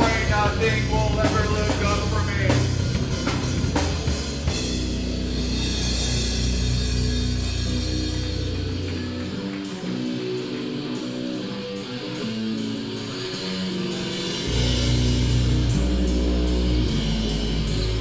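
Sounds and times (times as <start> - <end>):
bass: 0.0 - 18.0
heavy rock band playing: 0.0 - 18.0.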